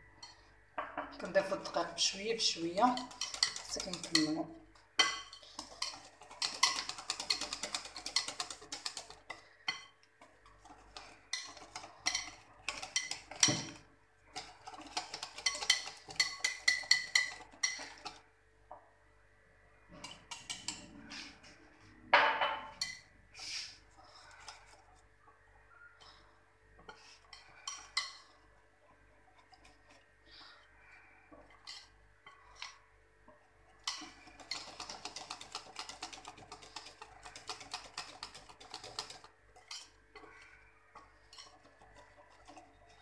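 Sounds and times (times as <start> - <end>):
whisk scraping glass bowl: 1.2 - 18.3, 19.9 - 21.6, 23.9 - 25.0, 26.0 - 28.6, 29.2 - 32.9, 33.6 - 43.0.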